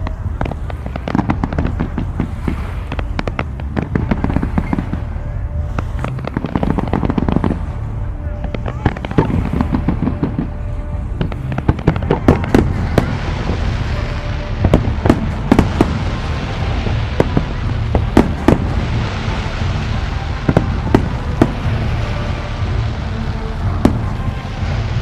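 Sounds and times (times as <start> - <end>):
fireworks bangs: 0.0 - 25.0
low rumble: 0.0 - 25.0.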